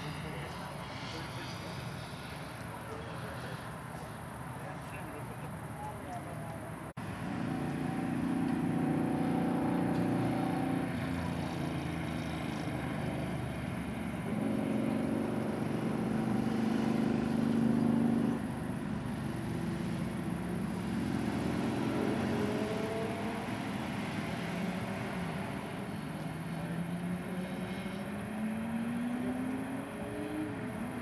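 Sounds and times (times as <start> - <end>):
vehicle engines humming: 0.0 - 31.0.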